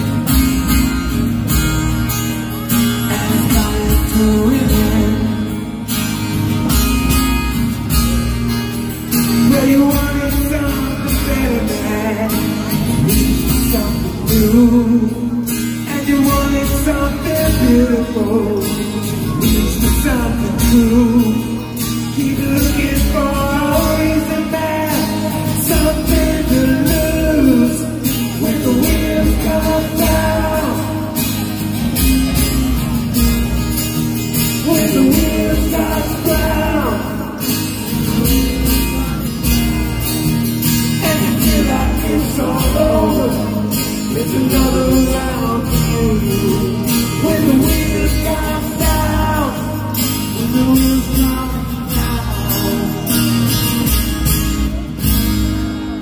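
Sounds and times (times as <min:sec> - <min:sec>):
live rock band playing: 0:00.0 - 0:56.0
strummed acoustic guitar: 0:00.0 - 0:56.0.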